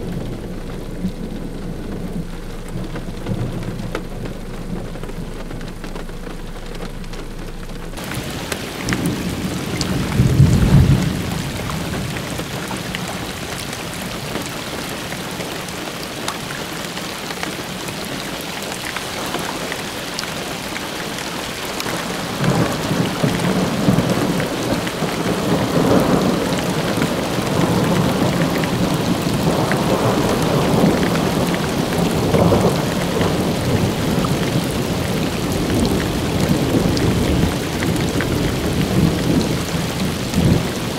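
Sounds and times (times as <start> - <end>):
thunder rumbling: 0.0 - 18.1, 18.8 - 40.9
rain hissing: 0.0 - 40.9.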